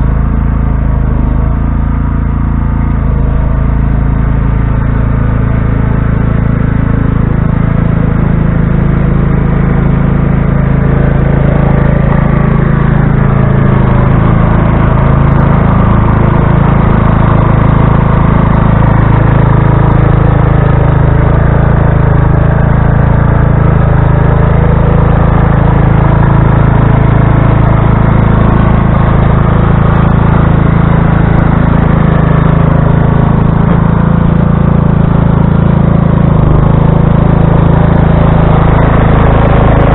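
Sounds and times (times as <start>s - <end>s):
plow blade pushing snow: 0.0s - 39.9s
small engine running: 0.0s - 39.9s.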